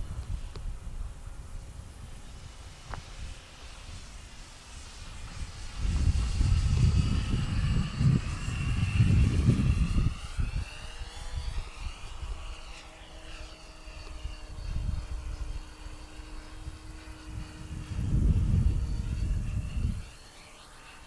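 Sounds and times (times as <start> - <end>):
wind buffeting microphone: 0.0 - 20.4
model plane motor whine: 0.0 - 21.0.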